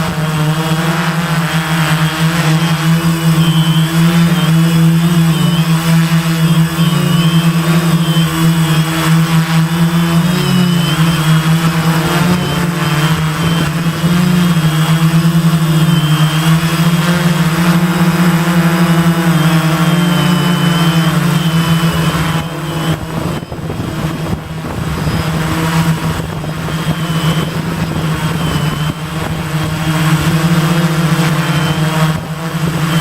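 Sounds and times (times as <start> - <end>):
quadcopter propellers buzzing: 0.0 - 33.0.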